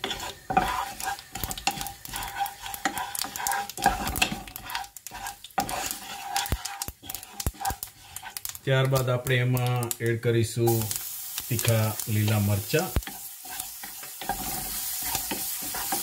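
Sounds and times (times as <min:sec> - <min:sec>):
spatula scraping and tapping pan: 0:00.0 - 0:10.0, 0:11.6 - 0:16.0
spices sizzling in oil: 0:00.0 - 0:16.0.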